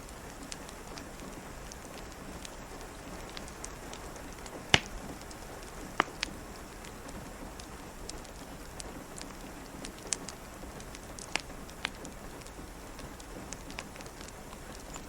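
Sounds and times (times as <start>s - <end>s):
rain hiss: 0.0s - 15.0s
wood fire crackling: 0.0s - 15.0s.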